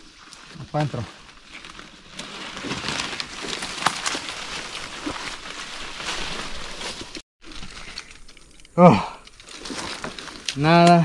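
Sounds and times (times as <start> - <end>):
rustling through dense brush: 0.0 - 8.6, 9.2 - 11.0
twigs snapping: 1.1 - 11.0.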